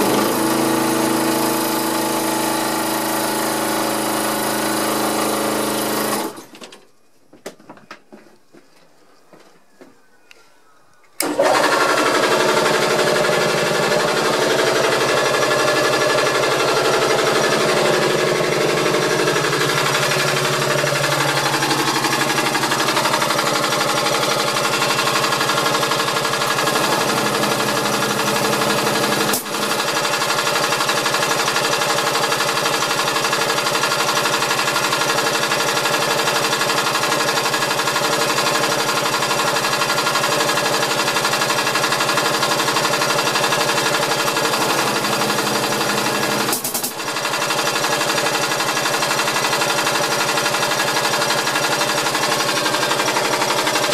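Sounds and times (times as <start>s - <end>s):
air compressor rattling: 0.0s - 6.9s, 11.2s - 53.9s.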